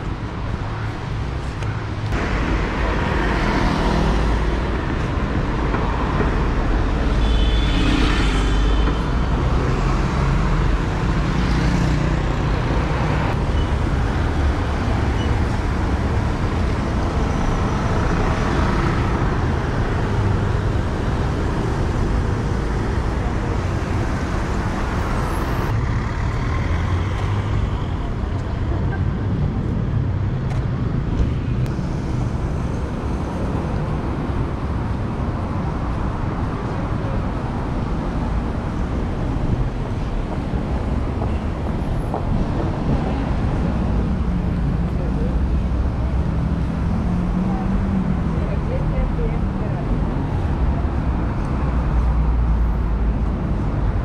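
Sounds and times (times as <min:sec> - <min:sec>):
traffic on wet roads: 0:00.0 - 0:54.0.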